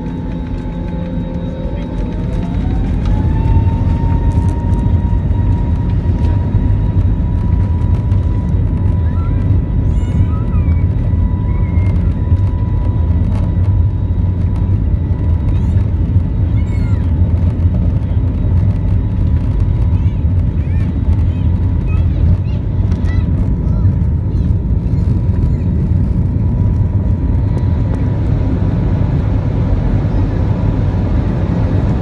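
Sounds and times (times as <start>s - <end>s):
jet engines spooling up: 0.0s - 32.0s
loud steady rumble: 0.0s - 32.0s.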